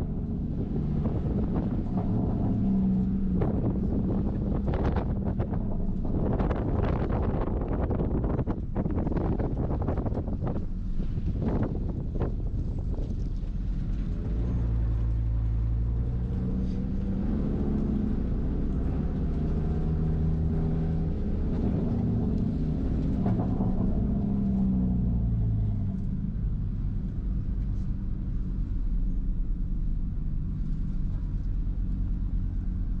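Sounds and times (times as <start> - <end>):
car engine revving: 0.0 - 27.6.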